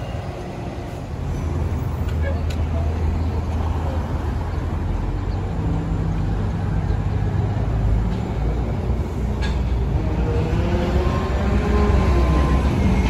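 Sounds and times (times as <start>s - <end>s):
bus engine rumble with motor hum: 0.0s - 13.0s.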